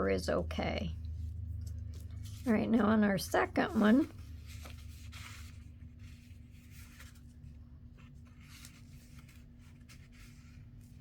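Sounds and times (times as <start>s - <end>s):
steady low hum: 0.0s - 11.0s
paper rustling by hand: 1.2s - 11.0s.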